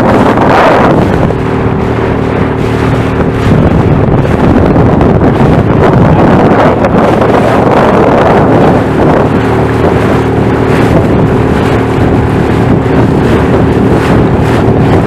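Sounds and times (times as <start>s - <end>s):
outboard engine hum: 0.0s - 15.0s
water rushing and splashing: 0.0s - 15.0s
wind buffeting microphone: 0.0s - 15.0s.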